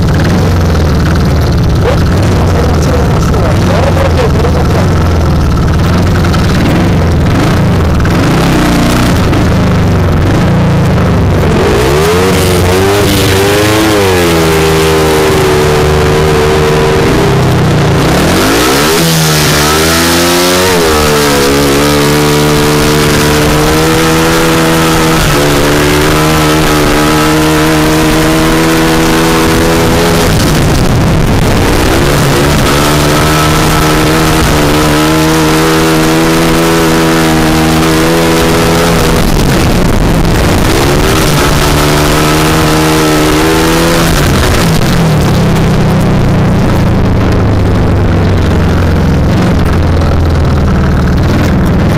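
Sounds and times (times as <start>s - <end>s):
motorcycle engine running hard: 0.0s - 51.9s.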